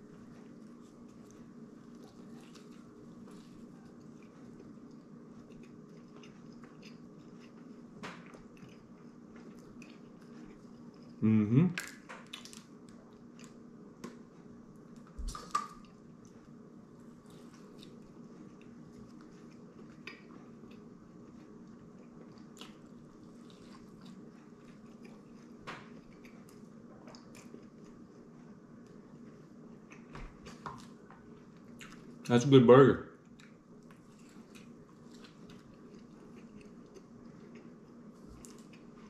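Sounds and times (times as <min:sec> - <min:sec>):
person chewing food: 0:00.0 - 0:11.2, 0:11.8 - 0:32.3, 0:33.2 - 0:39.0
room hum: 0:00.0 - 0:39.0.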